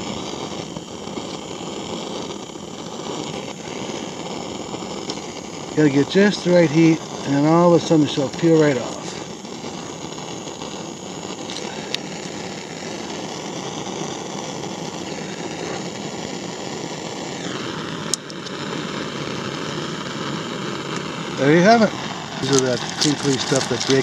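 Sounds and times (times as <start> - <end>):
propane torch hissing: 0.0 - 24.0.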